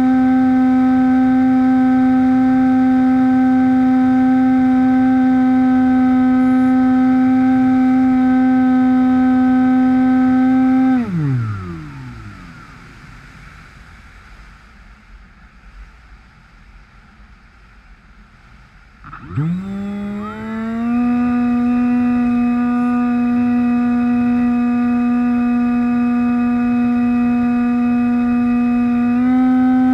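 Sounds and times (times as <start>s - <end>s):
electric motor whine: 0.0s - 13.4s, 19.0s - 29.9s.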